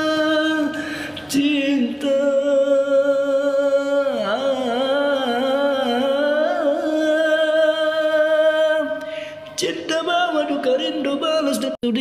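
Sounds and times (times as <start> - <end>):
man singing unaccompanied: 0.0 - 9.0, 9.6 - 12.0.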